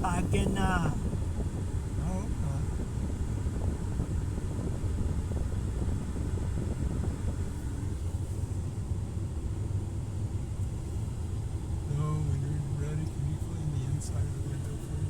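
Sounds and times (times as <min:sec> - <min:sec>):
car wash machinery rumble: 0:00.0 - 0:15.0.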